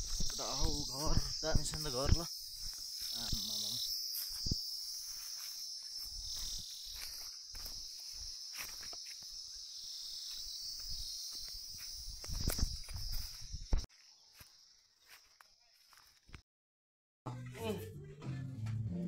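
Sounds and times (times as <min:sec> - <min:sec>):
high-pitched insect chorus: 0:00.0 - 0:16.2
footsteps on grass: 0:00.0 - 0:16.4.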